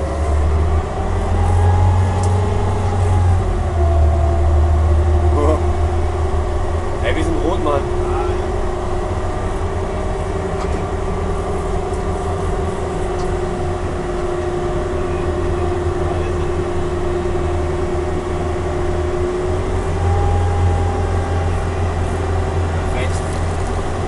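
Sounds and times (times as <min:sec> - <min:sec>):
diesel engine droning: 0:00.0 - 0:24.0
steady whine: 0:00.0 - 0:24.0.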